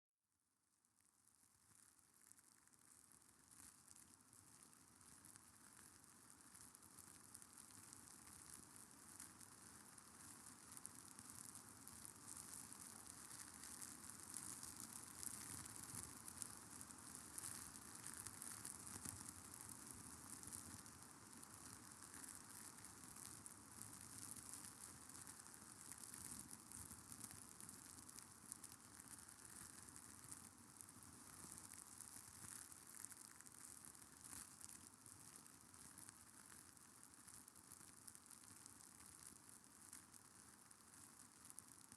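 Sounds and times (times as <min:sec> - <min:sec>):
faint crackling hiss: 0:00.8 - 0:41.9.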